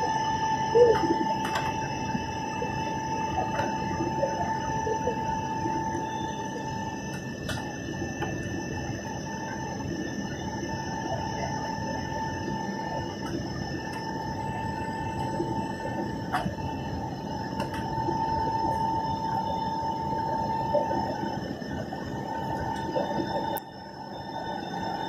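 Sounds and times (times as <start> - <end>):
high engine whine: 0.0 - 25.0
jet engine and airflow rush: 0.0 - 25.0.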